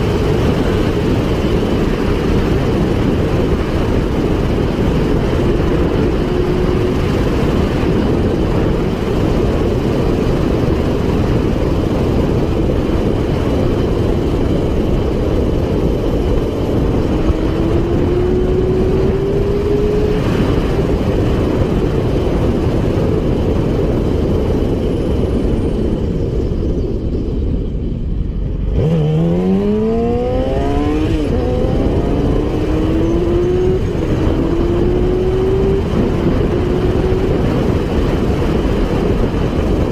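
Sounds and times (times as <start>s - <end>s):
motorcycle engine revving: 0.0s - 22.6s, 28.2s - 39.9s
loud steady rushing noise: 0.0s - 39.9s.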